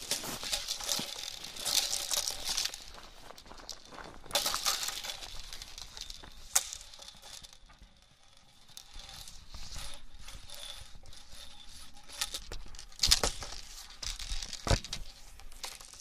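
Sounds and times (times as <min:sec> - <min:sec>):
hula hoop swishing: 0:00.0 - 0:16.0.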